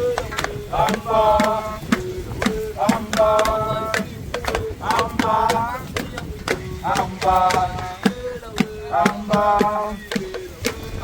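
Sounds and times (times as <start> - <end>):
voices chanting a sung phrase: 0.0 - 11.0
sharp knocking beats: 0.2 - 11.0.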